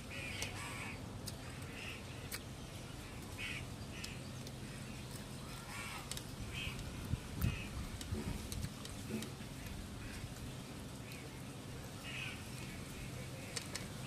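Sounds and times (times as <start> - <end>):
birds harsh calls: 0.0 - 14.0.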